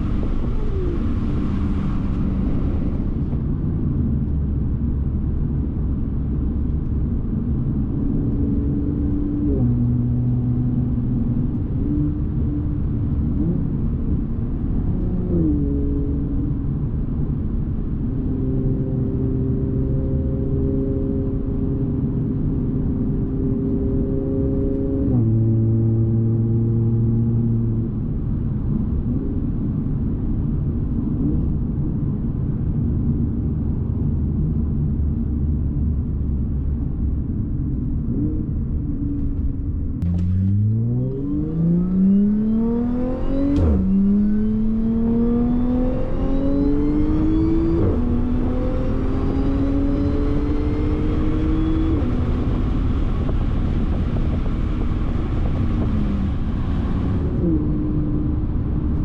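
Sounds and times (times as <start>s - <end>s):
car engine accelerating with upshifts: 0.0s - 59.0s.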